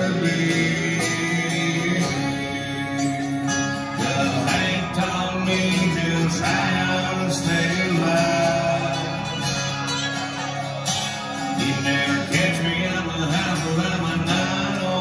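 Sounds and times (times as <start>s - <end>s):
person singing: 0.0s - 10.5s, 11.4s - 15.0s
strummed acoustic guitar: 0.0s - 15.0s
sustained melody notes: 0.0s - 15.0s.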